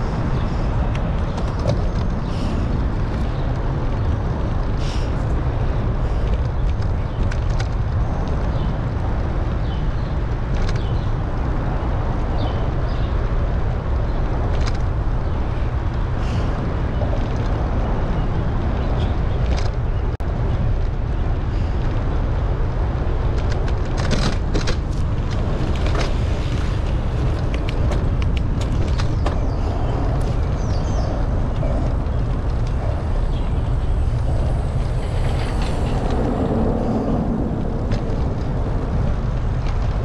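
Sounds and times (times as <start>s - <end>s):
wind on microphone: 0.0s - 40.0s.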